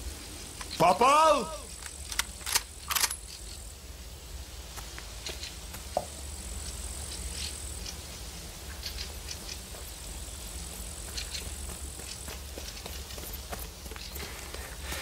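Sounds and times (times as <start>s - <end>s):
faint high insect buzz: 0.0s - 15.0s.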